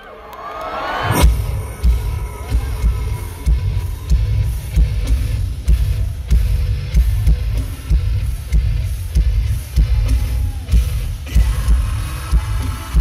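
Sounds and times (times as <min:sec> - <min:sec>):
live metal band playing: 0:01.0 - 0:13.0
kick drum and bass pounding: 0:01.2 - 0:13.0.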